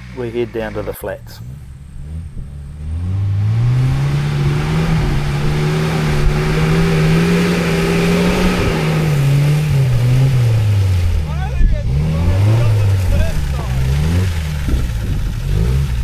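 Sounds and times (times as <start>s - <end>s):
engine revving hard: 0.0s - 16.0s.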